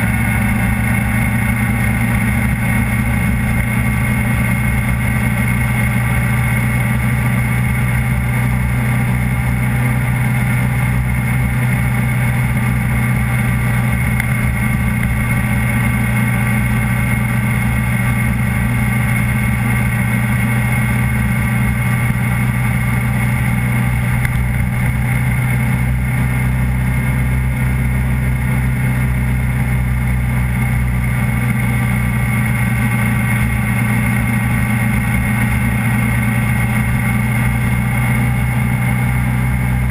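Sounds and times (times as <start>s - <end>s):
vehicle engine cruising: 0.0s - 39.9s.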